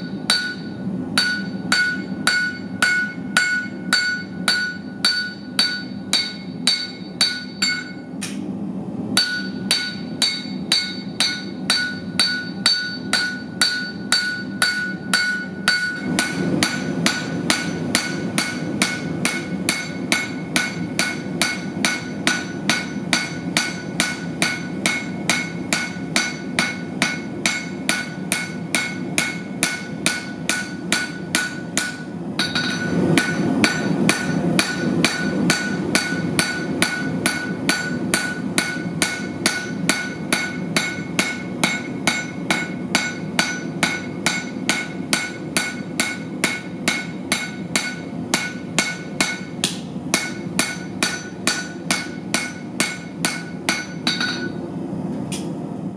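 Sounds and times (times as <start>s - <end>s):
hammer striking steel on anvil: 0.0s - 8.4s, 9.2s - 54.7s.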